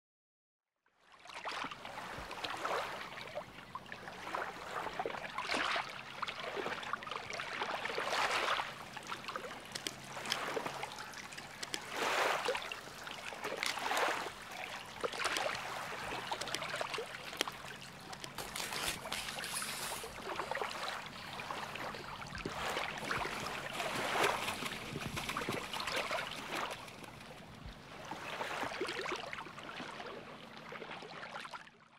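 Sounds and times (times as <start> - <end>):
sea water sloshing and splashing: 1.0 - 31.9.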